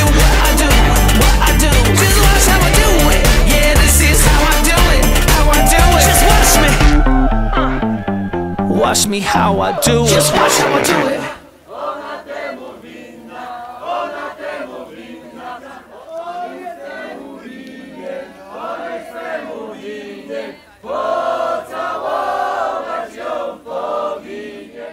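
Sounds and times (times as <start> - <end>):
group singing unaccompanied: 0.0 - 24.9.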